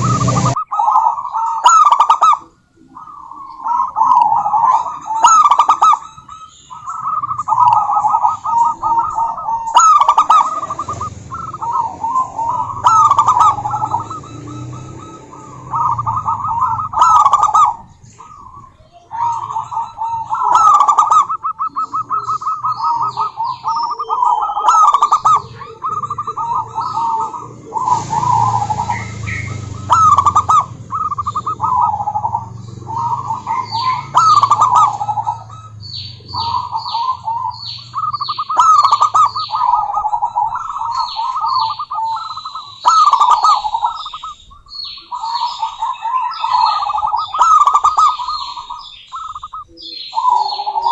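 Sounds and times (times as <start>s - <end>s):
doves cooing: 0.0s - 50.9s
small birds chirping: 0.0s - 50.9s.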